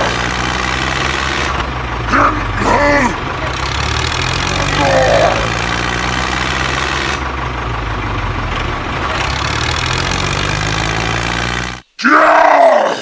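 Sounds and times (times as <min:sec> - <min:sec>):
engine idling: 0:00.0 - 0:11.8.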